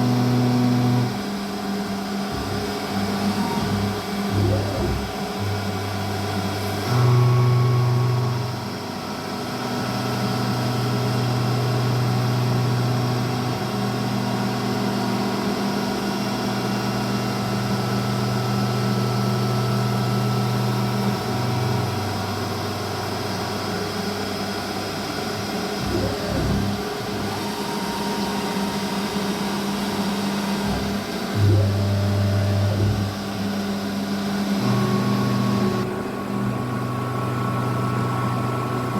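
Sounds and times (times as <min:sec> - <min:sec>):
milling machine humming: 0:00.0 - 0:38.9.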